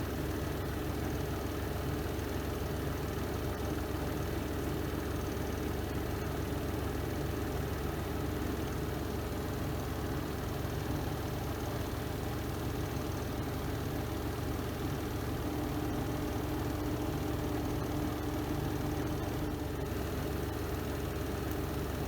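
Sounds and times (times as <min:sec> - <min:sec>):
washing machine spinning: 0:02.6 - 0:22.0.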